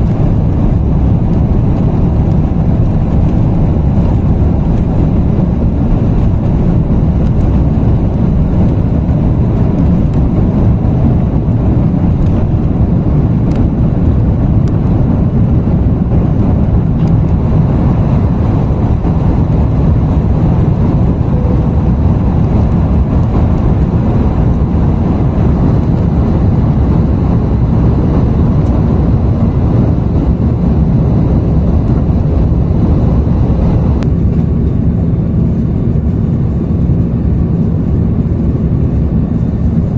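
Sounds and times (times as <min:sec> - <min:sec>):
jet engines at high thrust: 0:00.0 - 0:39.9.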